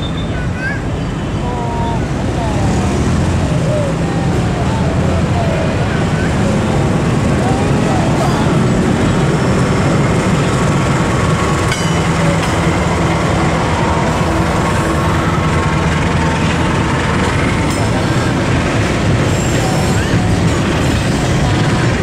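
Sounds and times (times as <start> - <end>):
diesel locomotive engine running: 0.0 - 22.0
train wheels rolling over rails: 2.1 - 22.0.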